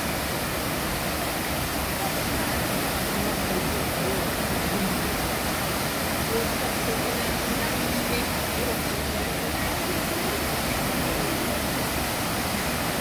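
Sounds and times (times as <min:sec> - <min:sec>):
waterfall rushing: 0:00.0 - 0:13.0
faint voices of people: 0:01.8 - 0:13.0.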